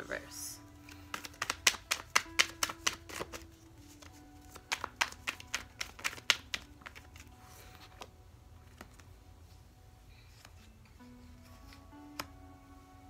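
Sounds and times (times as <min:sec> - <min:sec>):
cards being shuffled: 0:00.8 - 0:09.2, 0:10.3 - 0:12.4.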